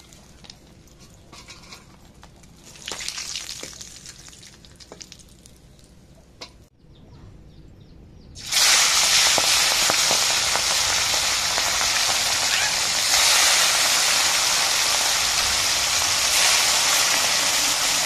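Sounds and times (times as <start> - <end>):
oil sizzling: 0.0 - 6.0, 8.4 - 18.0.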